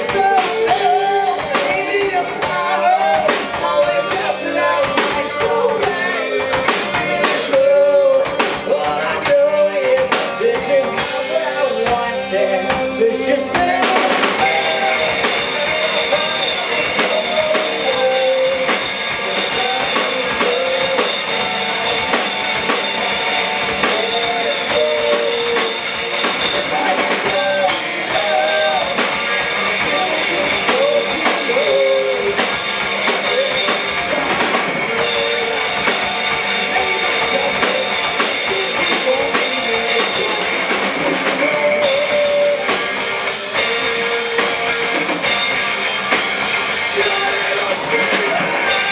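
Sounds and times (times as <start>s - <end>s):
bending guitar lead line: 0.0s - 48.9s
rock band playing: 0.0s - 48.9s.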